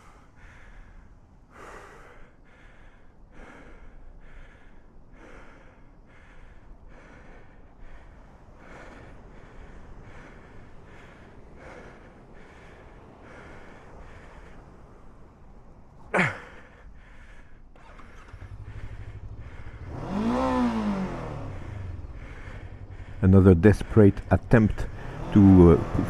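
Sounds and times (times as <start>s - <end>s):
man breathing hard: 0.0s - 26.0s.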